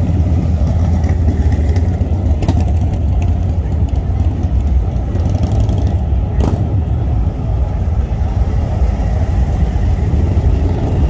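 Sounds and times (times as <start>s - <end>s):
motorcycle engines riding past: 0.0s - 11.0s.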